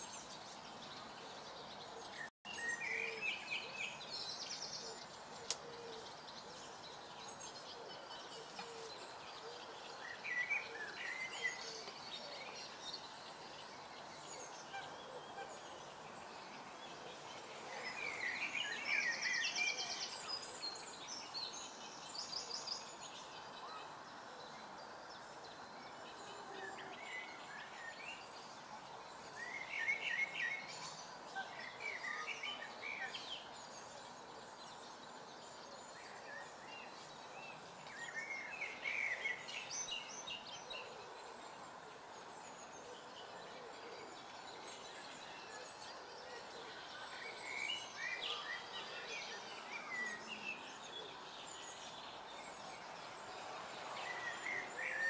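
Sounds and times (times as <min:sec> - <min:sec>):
songbirds chirping: 0:00.0 - 0:55.0
steady background hiss: 0:00.0 - 0:55.0.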